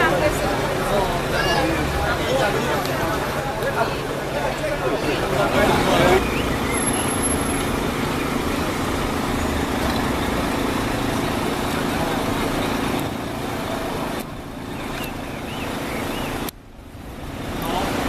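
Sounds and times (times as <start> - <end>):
faint distant voices: 0.0 - 16.4
heavy vehicle engines running: 0.0 - 18.0
road traffic noise: 0.0 - 18.0.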